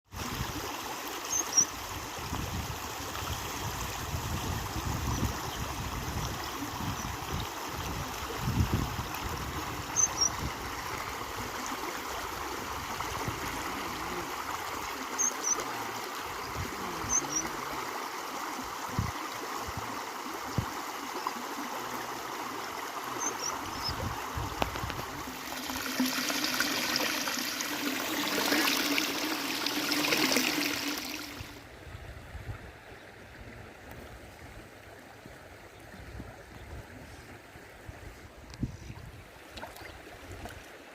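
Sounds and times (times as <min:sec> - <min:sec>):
water flowing: 0:00.1 - 0:40.9.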